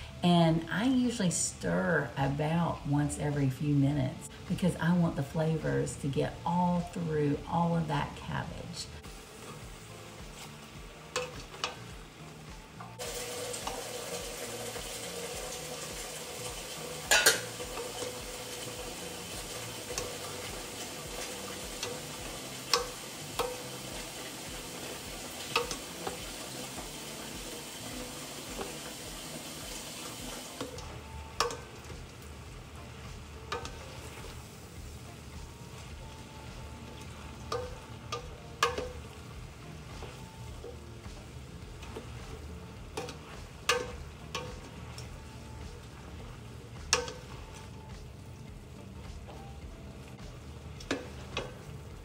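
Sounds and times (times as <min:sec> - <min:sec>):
cabbage sizzling in a pan: 0:00.0 - 0:52.0.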